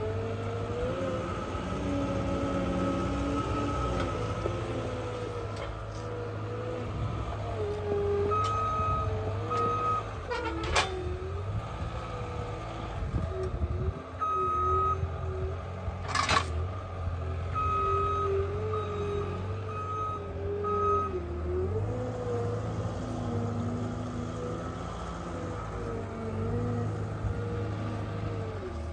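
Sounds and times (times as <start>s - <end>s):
diesel engine working: 0.0s - 28.9s.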